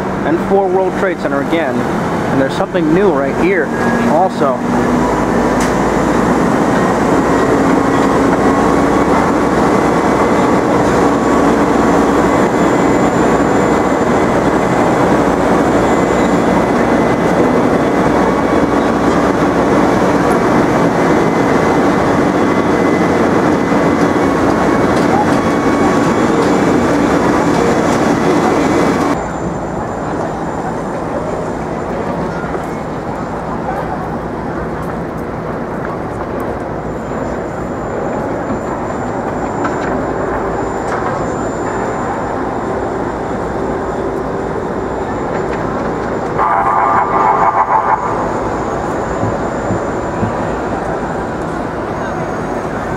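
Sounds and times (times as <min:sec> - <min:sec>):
loud mechanical noise with hum: 0:00.0 - 0:52.9.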